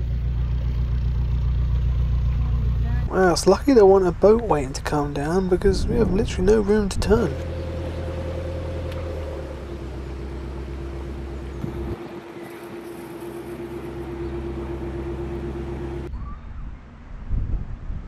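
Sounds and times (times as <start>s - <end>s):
boat engine running: 0.0s - 16.1s.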